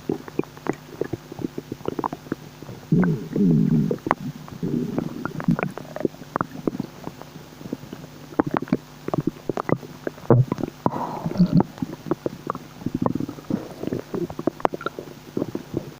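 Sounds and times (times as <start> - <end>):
stomach gurgling: 0.0 - 15.9.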